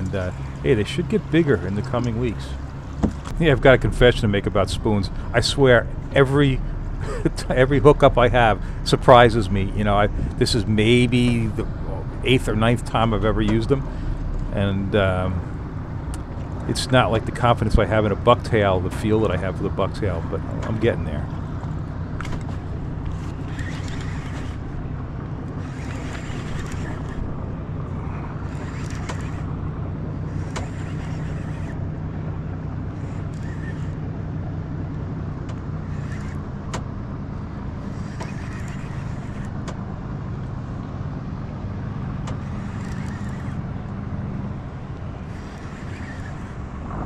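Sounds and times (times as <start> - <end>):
outboard motor idling: 0.0 - 47.0.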